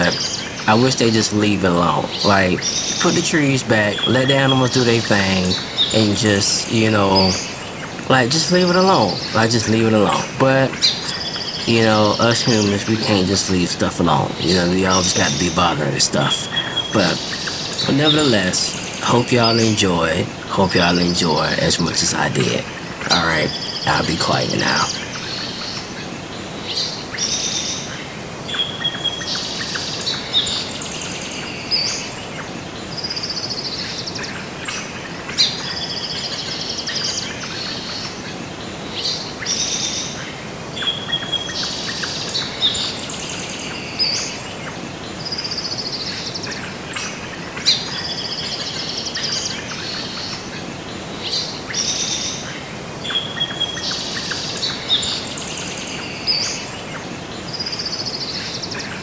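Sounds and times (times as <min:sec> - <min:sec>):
birds chirping and trilling: 0:00.0 - 0:59.0
steady background hiss: 0:00.0 - 0:59.0.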